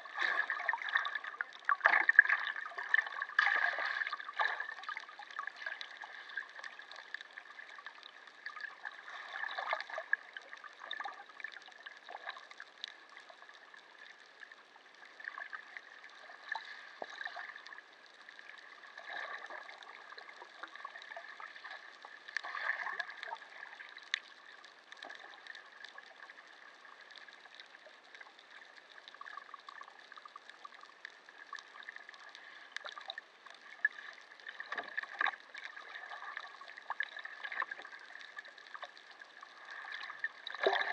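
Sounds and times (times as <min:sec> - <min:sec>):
faint steady hum: 0:00.0 - 0:40.9
underwater bubbling and gurgling: 0:00.0 - 0:40.9.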